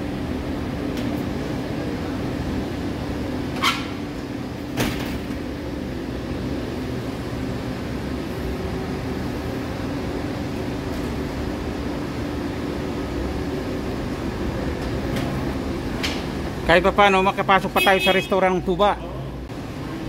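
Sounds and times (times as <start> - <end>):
air conditioning hum: 0.0 - 20.0.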